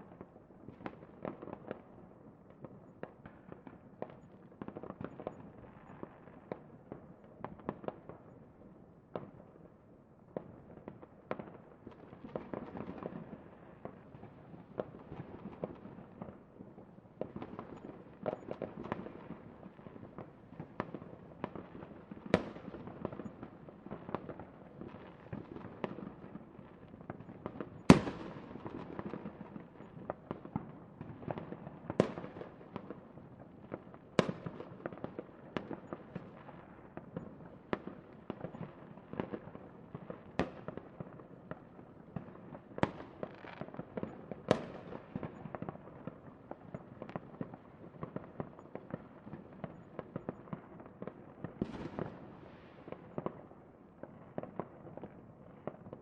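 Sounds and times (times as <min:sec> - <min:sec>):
fireworks bangs and crackles: 0:00.0 - 0:08.4, 0:10.3 - 0:56.0.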